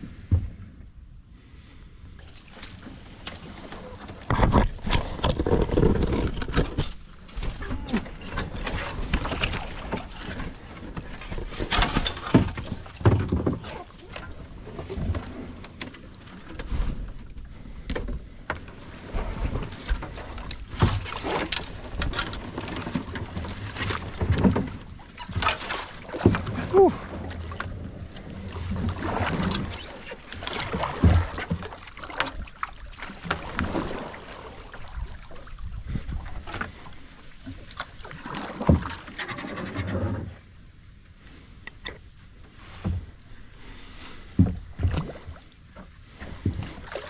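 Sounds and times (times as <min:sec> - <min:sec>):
paddle splashing water: 0:02.0 - 0:47.0.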